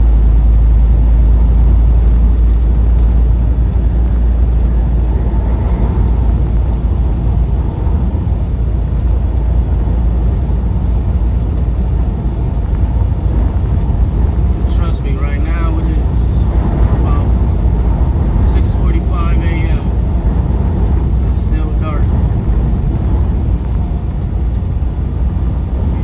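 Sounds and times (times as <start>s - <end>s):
road noise: 0.0s - 26.0s
truck engine rumble: 0.0s - 26.0s.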